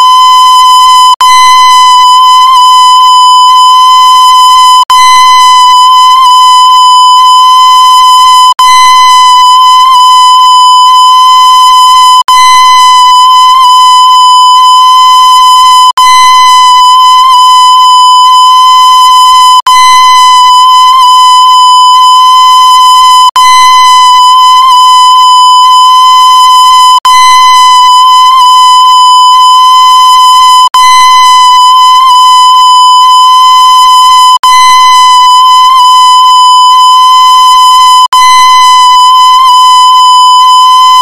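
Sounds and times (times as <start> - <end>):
loud steady electronic tone: 0.0 - 41.0.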